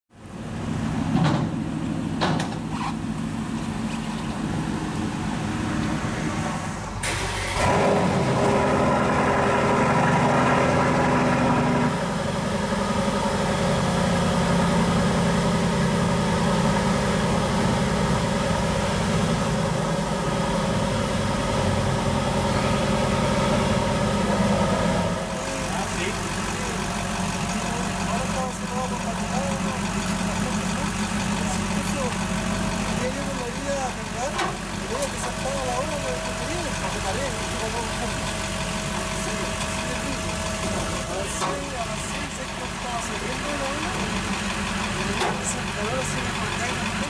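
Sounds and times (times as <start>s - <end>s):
car engine idling: 0.2s - 47.0s.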